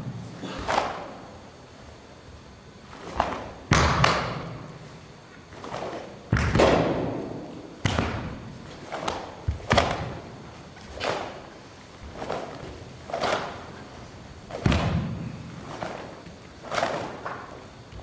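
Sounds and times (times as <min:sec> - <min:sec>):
bare feet striking floor: 0:02.9 - 0:18.0.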